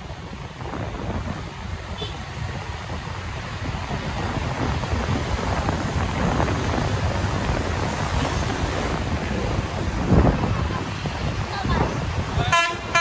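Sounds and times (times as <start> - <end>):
low rumble of road traffic: 0.0 - 13.0
wind buffeting a microphone: 0.0 - 13.0.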